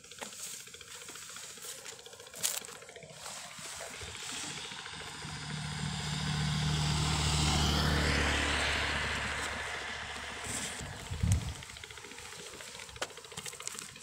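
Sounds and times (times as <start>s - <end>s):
engine passing by: 0.1s - 14.0s.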